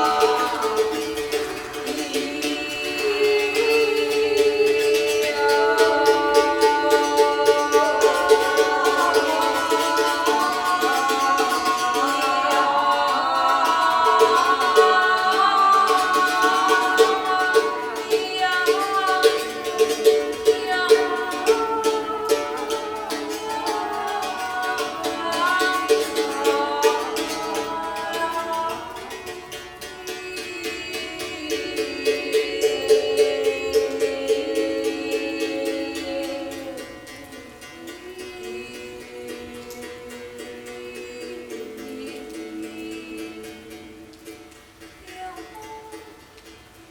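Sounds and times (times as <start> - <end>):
plucked strings: 0.0 - 46.9.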